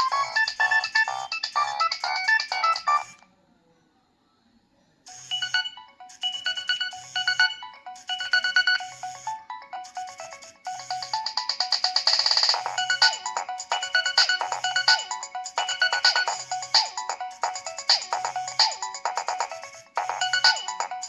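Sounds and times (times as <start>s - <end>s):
electronic ringtone melody: 0.0s - 3.2s, 5.1s - 21.0s
ringtone with bright notes and bass: 0.0s - 3.2s, 5.1s - 21.0s.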